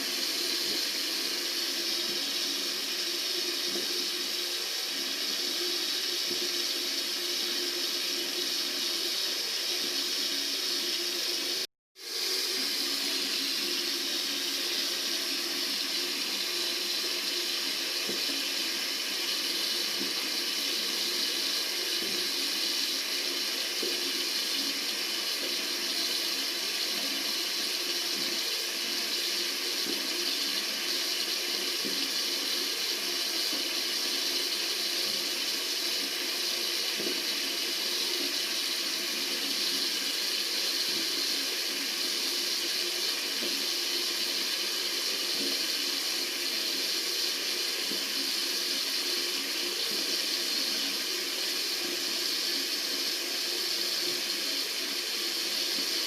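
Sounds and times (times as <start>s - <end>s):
tap water running: 0.0s - 56.0s.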